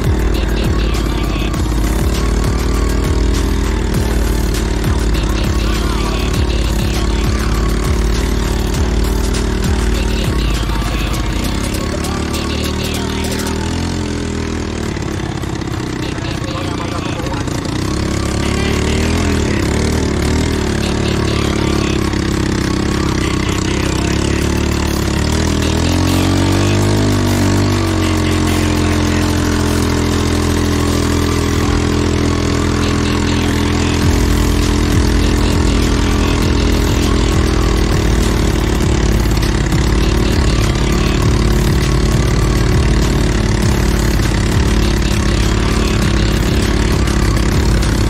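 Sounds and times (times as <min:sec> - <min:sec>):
atv engine idling and revving: 0:00.0 - 0:48.0.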